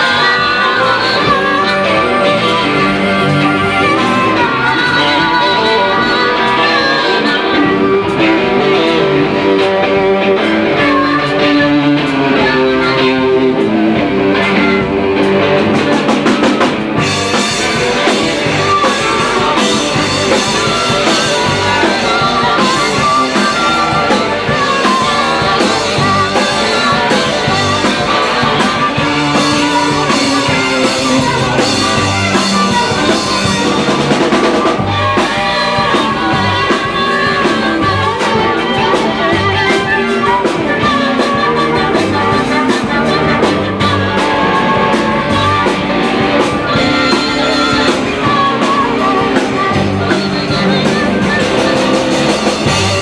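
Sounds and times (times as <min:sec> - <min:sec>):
blues guitar: 0:00.0 - 0:53.0
drum kit: 0:00.0 - 0:53.0.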